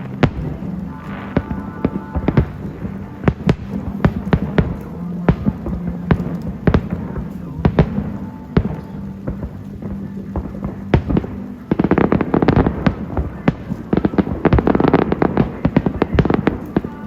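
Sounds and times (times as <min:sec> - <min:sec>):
fireworks bangs and cracks: 0:00.0 - 0:17.0
steady low hum: 0:00.0 - 0:17.0.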